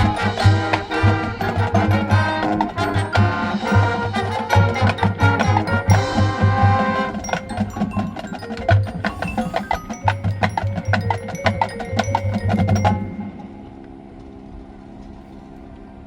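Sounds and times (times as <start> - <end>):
rapid snare drum strikes: 0.0 - 12.9
mallet percussion and chimes: 0.0 - 13.8.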